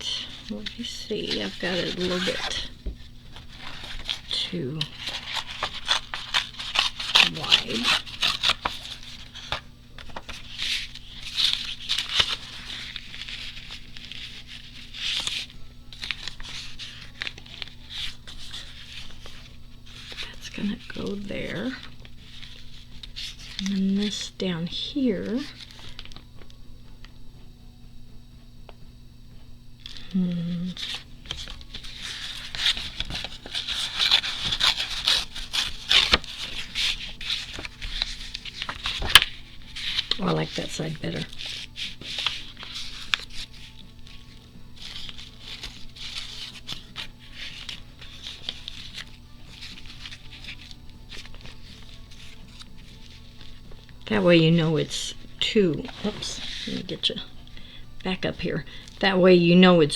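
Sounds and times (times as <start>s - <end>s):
paper tearing: 0.0s - 24.3s, 29.8s - 57.0s
paper rustling: 0.0s - 27.5s, 29.7s - 59.0s.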